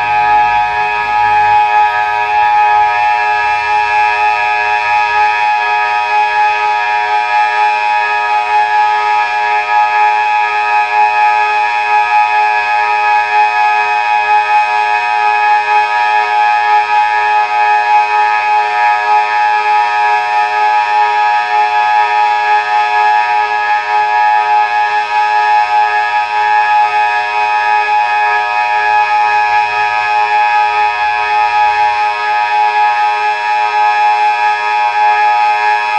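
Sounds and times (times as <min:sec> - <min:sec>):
siren steady tone: 0:00.0 - 0:35.9.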